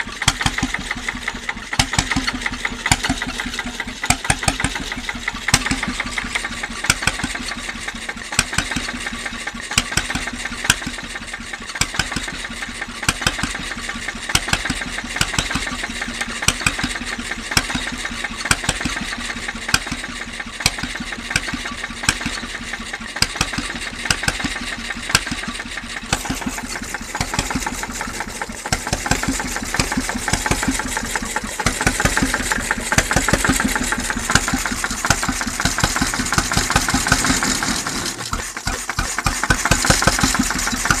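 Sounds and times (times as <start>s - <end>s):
marine engine knocking: 0.0s - 41.0s.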